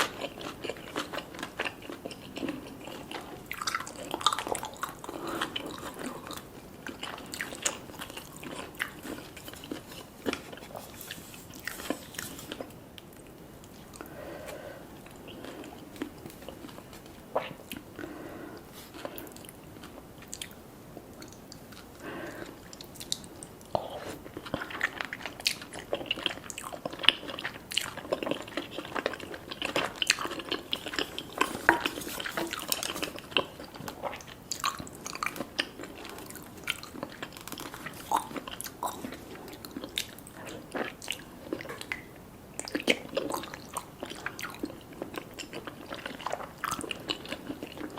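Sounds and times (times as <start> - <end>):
biting and chewing food: 0.0 - 47.9.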